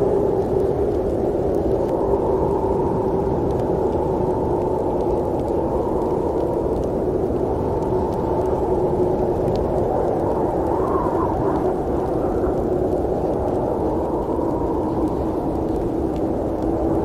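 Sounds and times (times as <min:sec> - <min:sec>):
faint clicks: 0:00.2 - 0:17.0.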